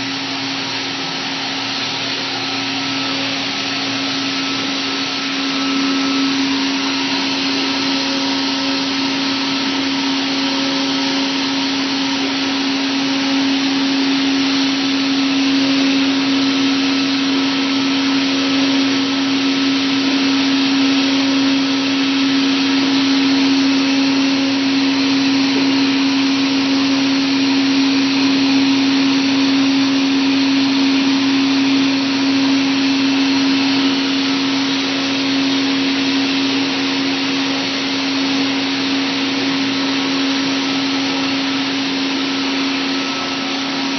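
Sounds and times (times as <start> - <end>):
router machine humming: 0.0 - 43.9.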